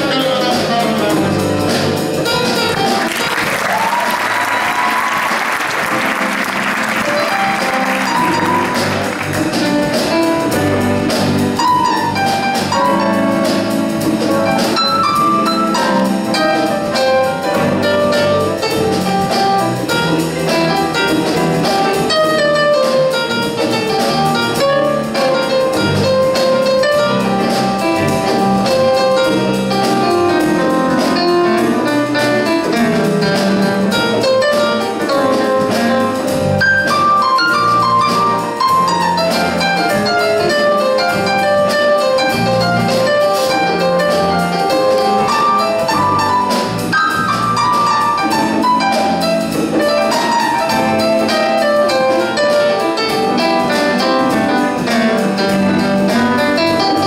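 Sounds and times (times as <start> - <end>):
electric bass: 0.0 - 3.9, 5.7 - 57.0
drums: 0.0 - 57.0
jazz ensemble playing: 0.0 - 57.0
piano solo: 0.0 - 57.0.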